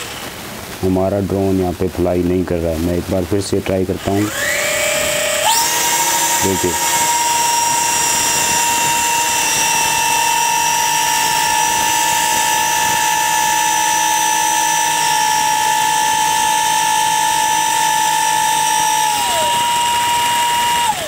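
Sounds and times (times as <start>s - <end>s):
toy drone motors whining: 4.0s - 21.0s.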